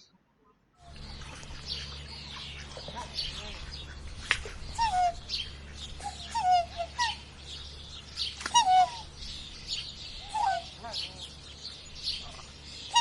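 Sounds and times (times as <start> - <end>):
small birds chirping: 0.8 - 13.0
swan honking calls: 0.8 - 13.0.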